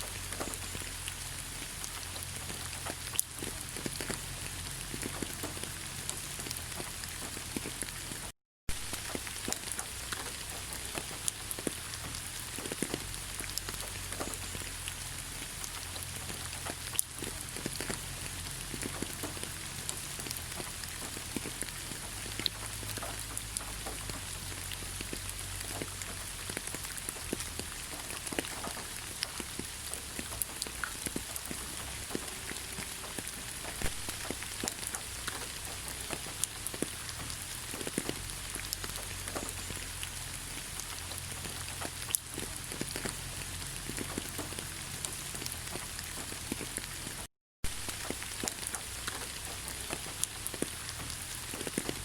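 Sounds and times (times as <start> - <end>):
rain hissing in forest: 0.0 - 52.0
raindrops ticking: 0.0 - 52.0.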